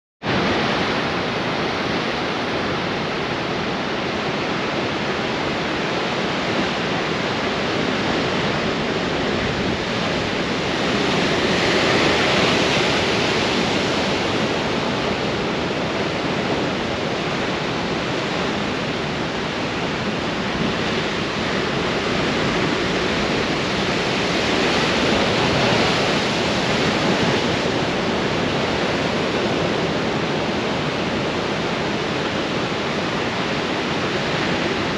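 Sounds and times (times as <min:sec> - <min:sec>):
strong wind: 0:00.2 - 0:34.9
ocean waves breaking on rocks: 0:04.3 - 0:34.9.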